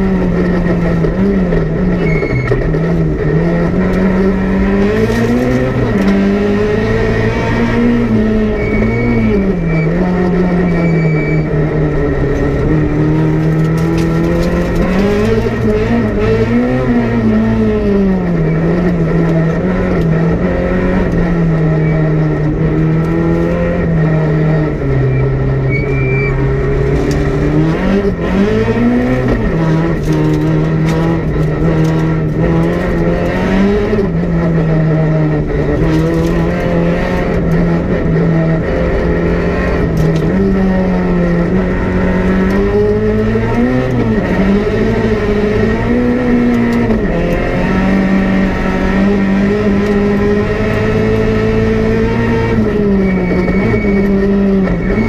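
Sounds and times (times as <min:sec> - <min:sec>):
rally car engine at high revs: 0:00.0 - 0:55.0.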